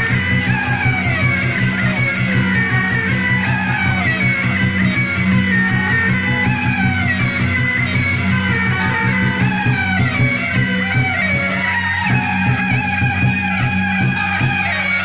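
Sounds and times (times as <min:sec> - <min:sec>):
drums and cymbals beat: 0:00.0 - 0:15.0
shawms playing sliding melody: 0:00.0 - 0:15.0.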